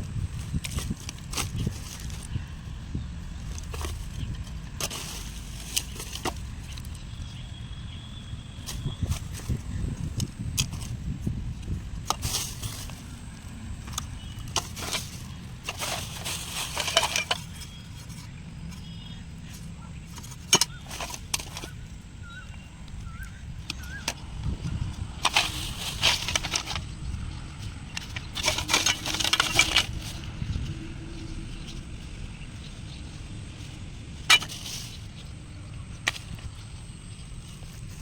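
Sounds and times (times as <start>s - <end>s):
scraping on headphones: 0.0s - 38.0s.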